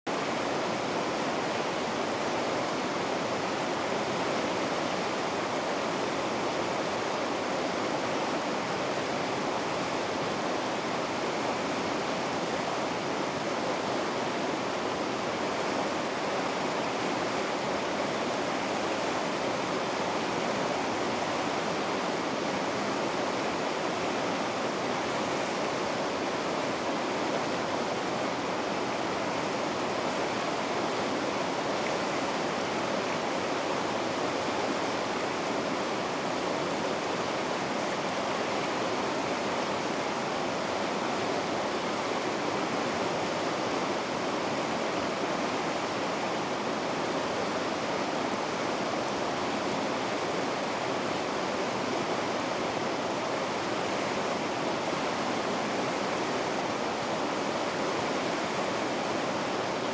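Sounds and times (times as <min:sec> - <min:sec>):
river rapids rushing: 0:00.1 - 0:59.9.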